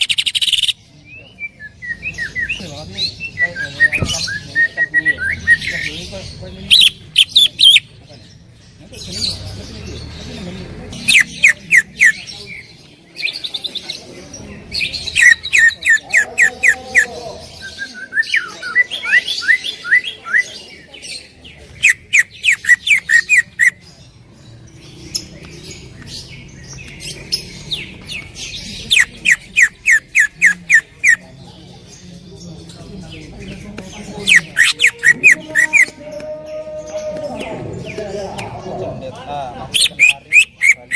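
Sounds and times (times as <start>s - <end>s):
bird singing rapid sharp notes: 0.0s - 36.2s.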